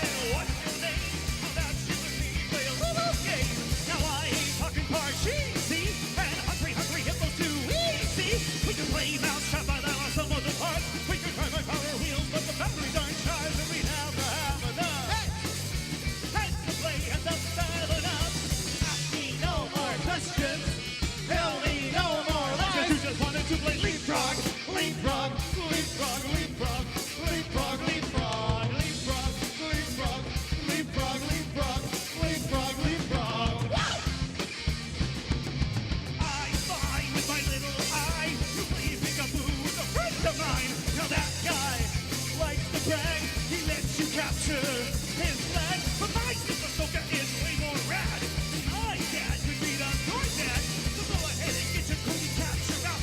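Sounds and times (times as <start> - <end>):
lead singer singing: 0.0 - 15.6, 16.2 - 34.4, 36.2 - 53.0
punk rock band playing: 0.0 - 53.0.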